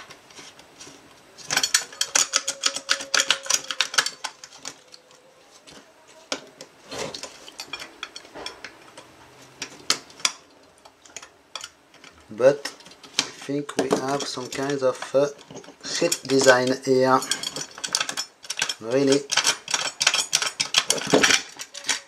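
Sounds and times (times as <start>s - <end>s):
tools clicking and scraping on metal: 0.0s - 22.0s.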